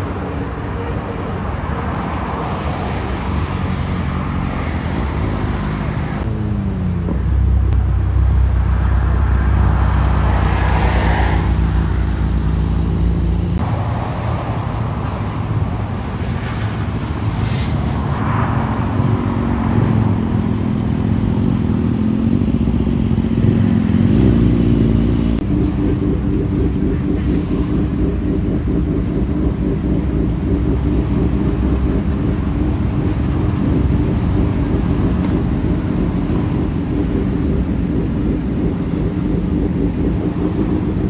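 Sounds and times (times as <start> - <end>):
highway traffic: 0.0 - 41.0
motorcycle engines revving: 0.0 - 41.0.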